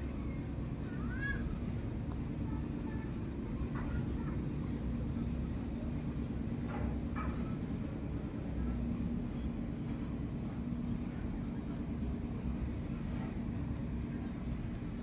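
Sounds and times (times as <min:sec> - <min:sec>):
faint constant hum: 0:00.0 - 0:15.0
low background rumble: 0:00.0 - 0:15.0.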